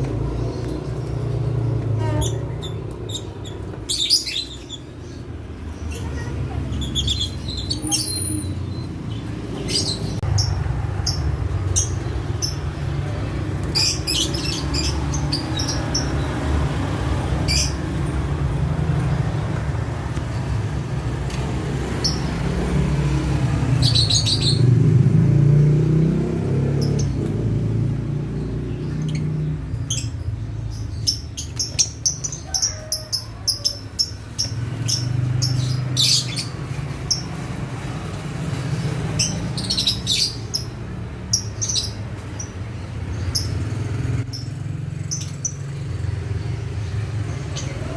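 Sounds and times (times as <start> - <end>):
lovebirds chirping: 0.0 - 19.4, 20.1 - 24.9, 26.4 - 47.9.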